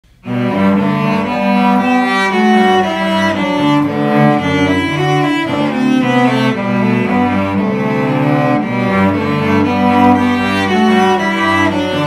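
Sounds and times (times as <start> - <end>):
cellos bowing a duet: 0.1 - 12.0.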